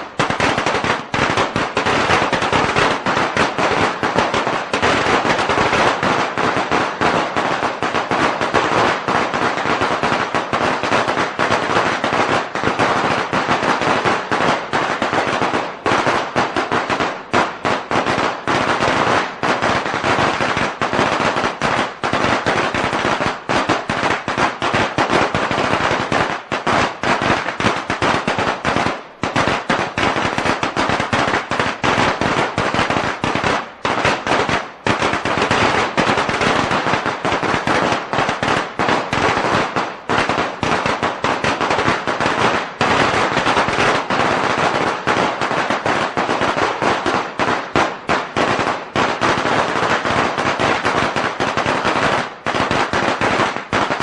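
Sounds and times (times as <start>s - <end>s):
firecrackers cracking: 0.0s - 54.0s.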